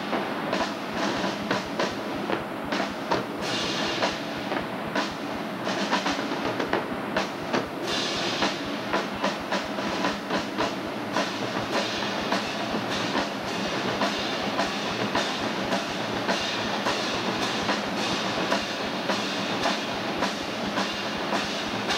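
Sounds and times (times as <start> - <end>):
crash cymbals: 0.0 - 21.9
snare drums: 0.0 - 21.9.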